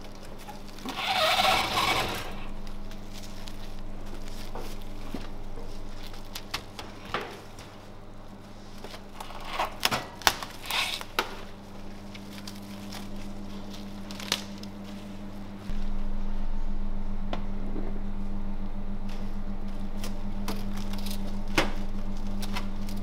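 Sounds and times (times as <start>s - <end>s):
plastic film crinkling: 0.0s - 15.9s, 19.1s - 23.0s
steady low hum: 0.0s - 23.0s.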